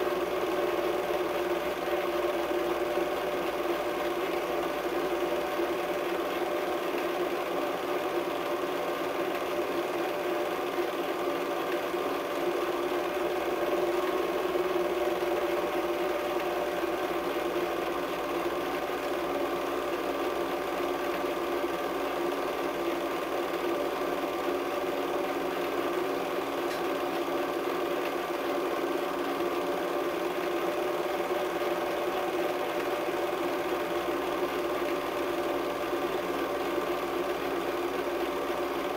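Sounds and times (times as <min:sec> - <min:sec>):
film projector whirr and clatter: 0:00.0 - 0:38.9.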